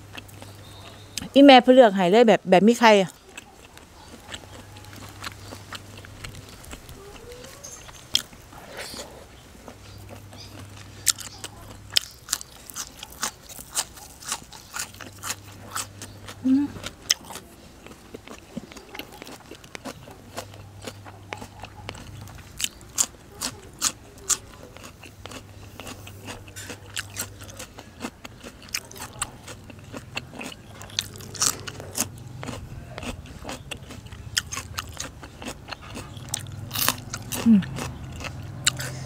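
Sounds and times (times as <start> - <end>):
wet chewing: 2.7 - 39.0
crunching raw vegetables: 3.0 - 39.0.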